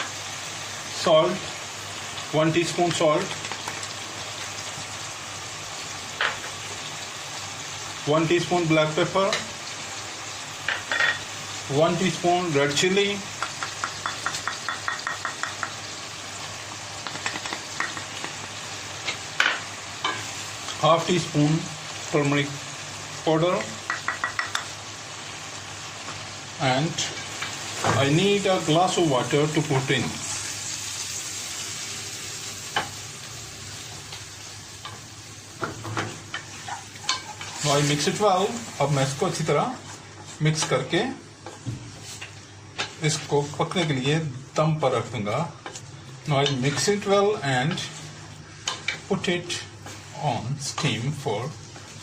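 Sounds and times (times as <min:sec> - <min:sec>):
food frying in oil: 0:00.0 - 0:52.0.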